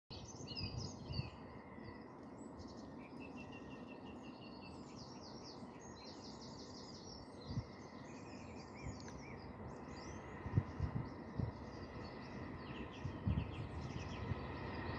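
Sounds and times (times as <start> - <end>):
small birds singing and chirping: 0.1 - 14.9
low background rumble: 0.3 - 14.9.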